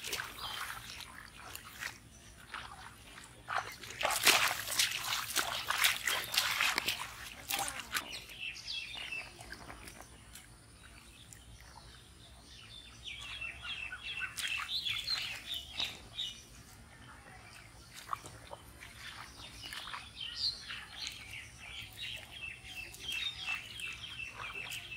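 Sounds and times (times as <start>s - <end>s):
birds chirping: 0.0s - 24.9s
splashing in muddy water: 0.0s - 24.9s.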